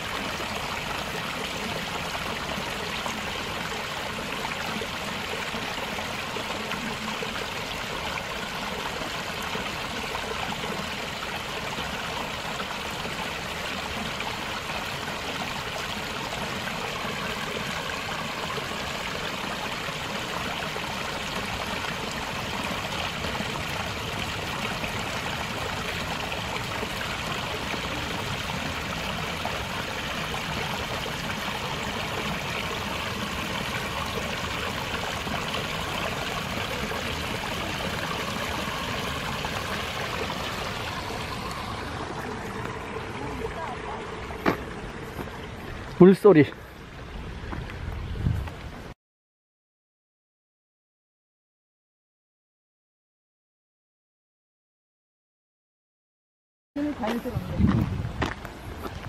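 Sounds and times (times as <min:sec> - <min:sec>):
stream trickling over stones: 0:00.0 - 0:47.8, 0:56.8 - 0:59.0.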